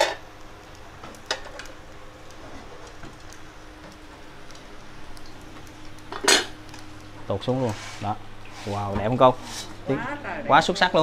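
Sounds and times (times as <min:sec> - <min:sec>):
oil sizzling in pans: 0:00.0 - 0:11.0
steady low hum: 0:00.0 - 0:11.0.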